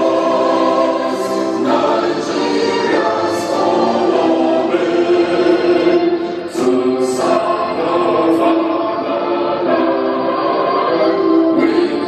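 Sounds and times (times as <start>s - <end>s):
choir singing an anthem: 0.0s - 12.0s.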